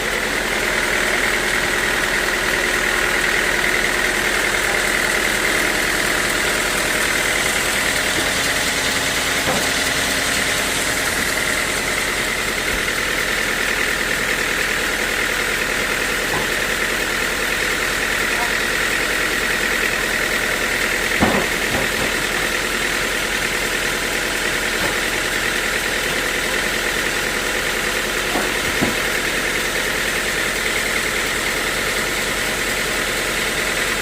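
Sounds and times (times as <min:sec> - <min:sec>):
sawmill machinery drone: 0:00.0 - 0:34.0.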